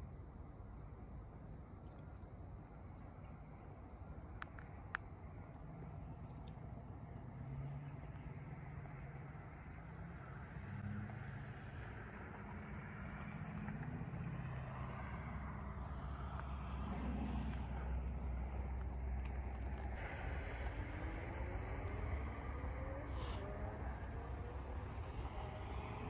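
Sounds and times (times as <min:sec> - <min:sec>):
distant motor vehicle hum: 0:00.0 - 0:26.0.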